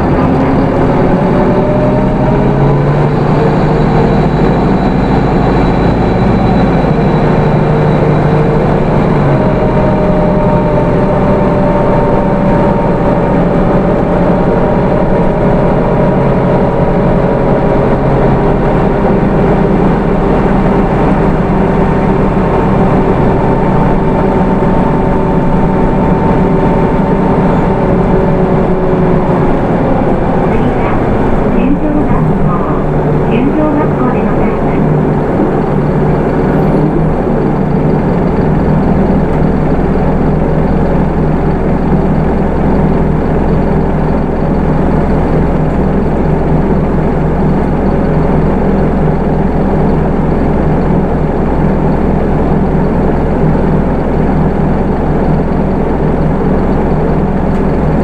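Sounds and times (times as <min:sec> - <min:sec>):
bus engine droning: 0:00.0 - 0:58.0
road noise: 0:00.0 - 0:58.0.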